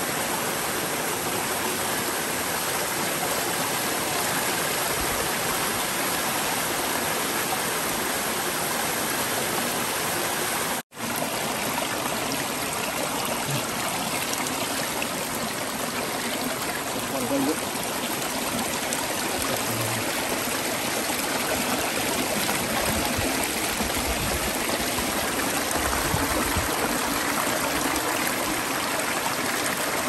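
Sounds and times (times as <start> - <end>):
stream trickling over stones: 0.1 - 30.0.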